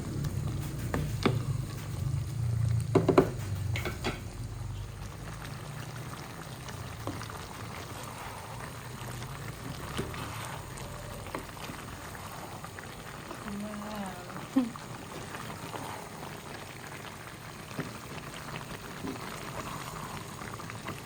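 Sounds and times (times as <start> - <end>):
stew bubbling in a pot: 0.0 - 21.0.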